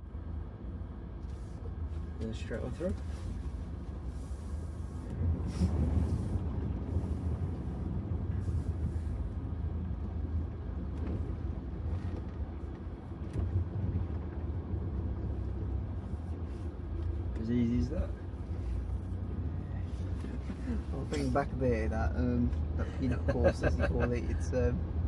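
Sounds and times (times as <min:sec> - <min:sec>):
engine and road rumble: 0:00.0 - 0:25.0
water swishing under car: 0:01.3 - 0:21.7.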